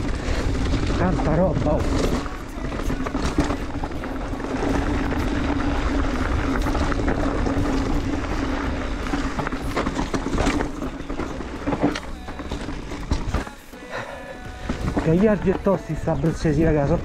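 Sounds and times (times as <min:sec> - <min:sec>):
bike rattling knocks: 0:00.0 - 0:17.0
tyres rolling on dirt: 0:00.0 - 0:17.0.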